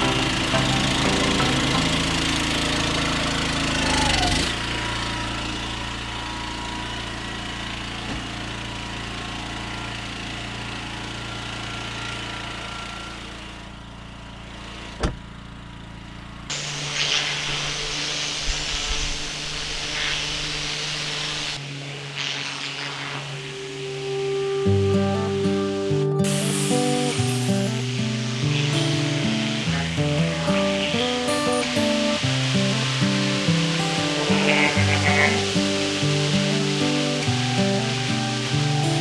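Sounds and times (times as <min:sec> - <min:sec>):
pressure washer engine running: 0:00.0 - 0:39.0.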